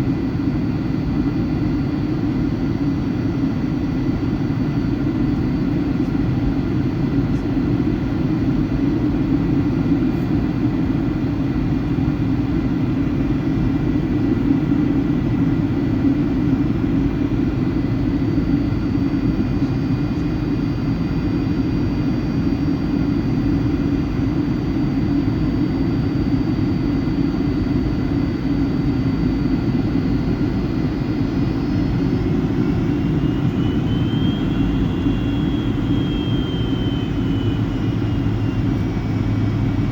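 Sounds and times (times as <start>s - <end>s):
jet engine roar in cabin: 0.0s - 39.9s
high engine whines: 0.1s - 39.9s.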